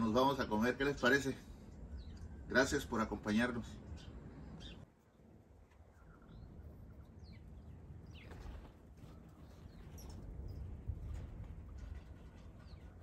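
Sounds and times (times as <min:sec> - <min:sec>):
faint low outdoor rumble: 0:00.0 - 0:13.0.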